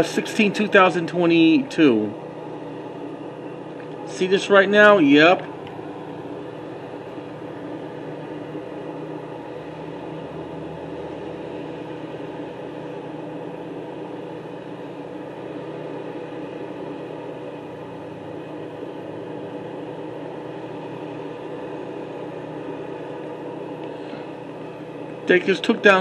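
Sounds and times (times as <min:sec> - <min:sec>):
machine hum with held tones: 0:00.0 - 0:26.0.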